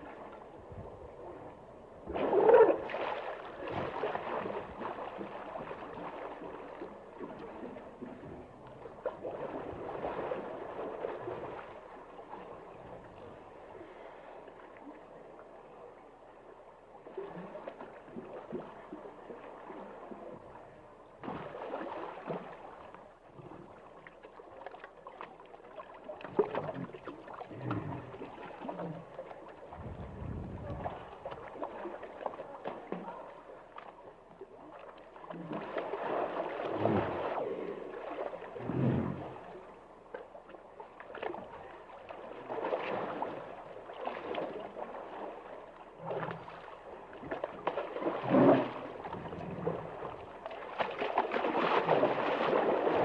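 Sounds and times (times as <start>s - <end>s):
water sloshing and gurgling: 0.0s - 53.0s.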